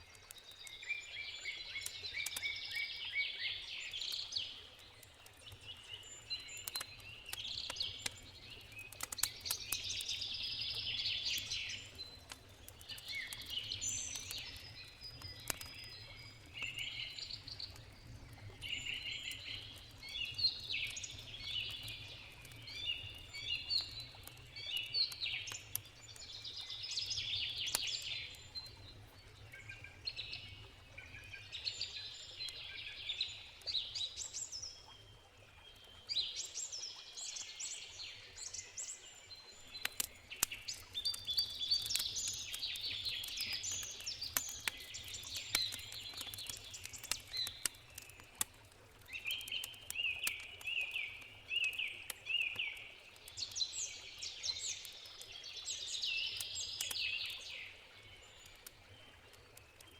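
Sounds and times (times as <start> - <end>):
campfire crackling: 0.0 - 59.9
songbirds singing: 0.0 - 59.9.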